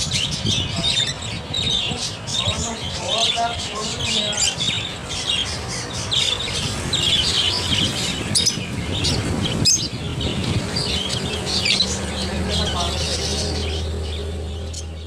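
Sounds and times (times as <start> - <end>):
caged birds chirping and squawking: 0.0 - 15.0.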